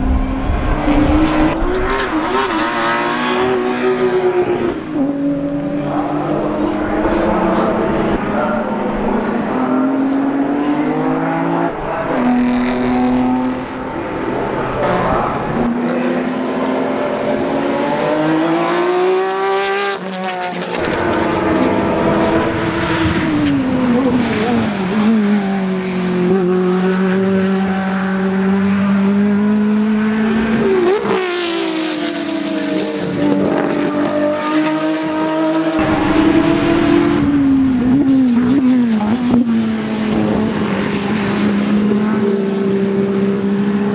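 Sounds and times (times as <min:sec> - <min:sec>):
racing car engines passing: 0:00.0 - 0:43.9.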